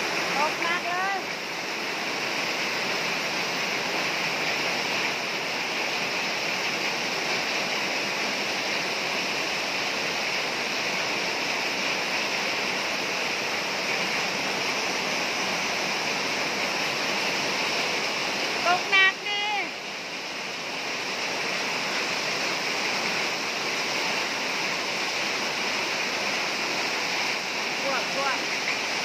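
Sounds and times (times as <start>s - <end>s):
heavy rain splashing on water: 0.0s - 29.0s.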